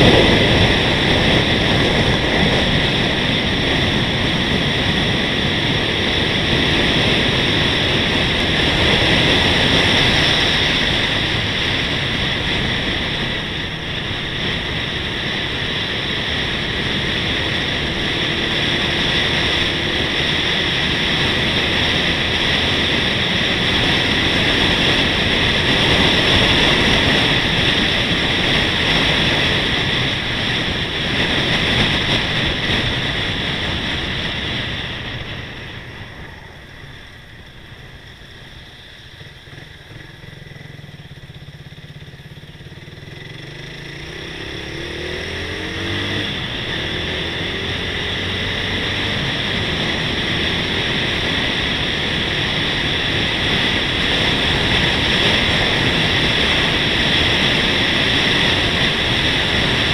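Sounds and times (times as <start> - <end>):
road noise: 0.0 - 59.9
vehicle running: 0.0 - 59.9.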